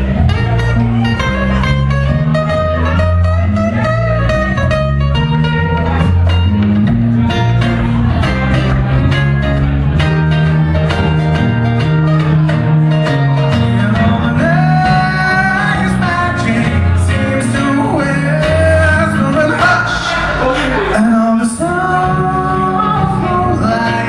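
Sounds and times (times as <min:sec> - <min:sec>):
electric bass: 0:00.0 - 0:24.0
sliding lead melody: 0:00.0 - 0:24.0
strummed acoustic guitar: 0:00.0 - 0:24.0.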